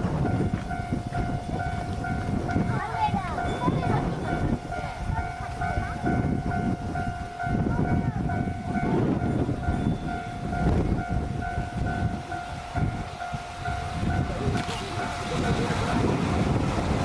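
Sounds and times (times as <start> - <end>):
freight train rumbling: 0.0 - 17.0
level crossing bell dinging: 0.3 - 16.2.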